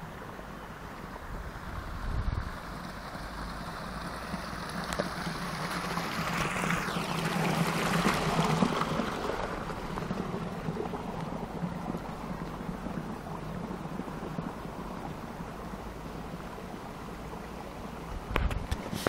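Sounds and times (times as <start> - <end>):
water rushing in a channel: 0.0 - 19.0.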